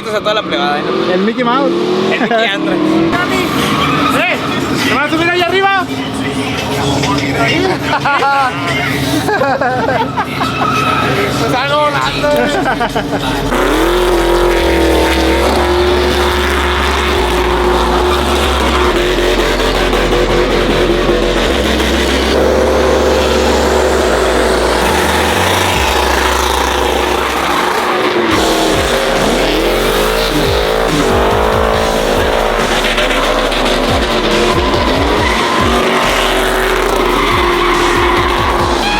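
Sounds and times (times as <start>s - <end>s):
tire squeal: 0.0s - 38.9s
truck engine revving: 0.0s - 38.9s.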